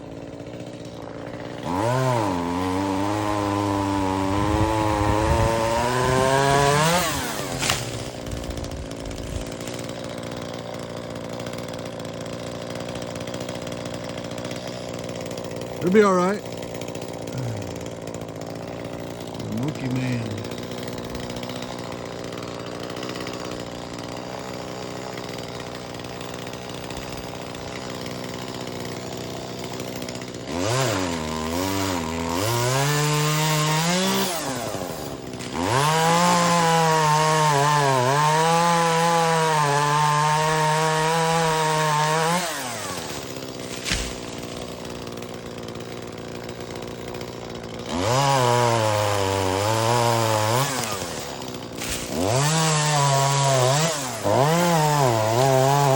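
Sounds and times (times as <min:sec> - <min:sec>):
gas chainsaw revving and cutting: 0:00.0 - 0:55.9.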